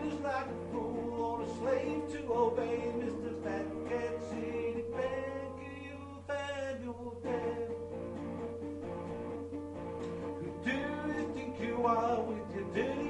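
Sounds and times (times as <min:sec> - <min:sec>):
man singing: 0:00.0 - 0:08.0, 0:10.2 - 0:13.0
guitar strumming: 0:00.0 - 0:13.0.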